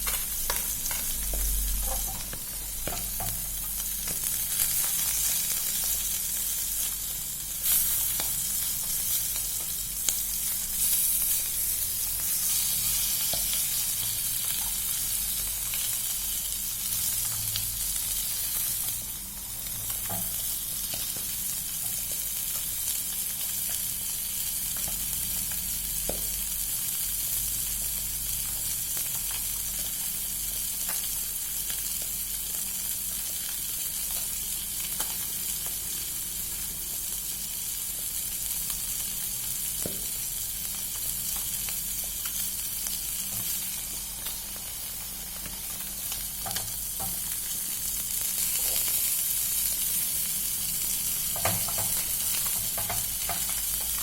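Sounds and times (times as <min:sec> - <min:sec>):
food deep-frying sizzle: 0:00.0 - 0:54.0.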